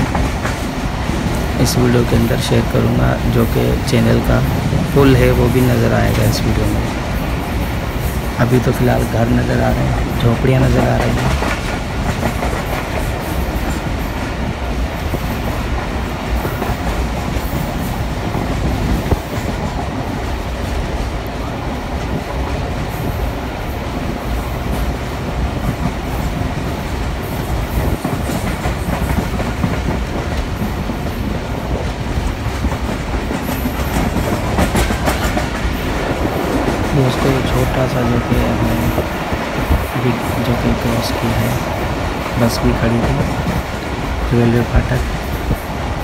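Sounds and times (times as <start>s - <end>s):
train wheels on rails: 0.0s - 46.0s.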